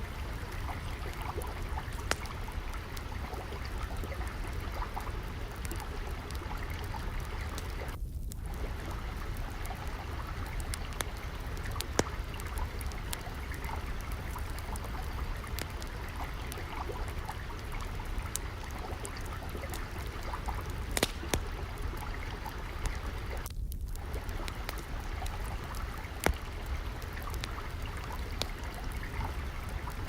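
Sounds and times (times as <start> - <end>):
fire crackling: 0.0 - 30.0
water trickling: 0.0 - 30.0.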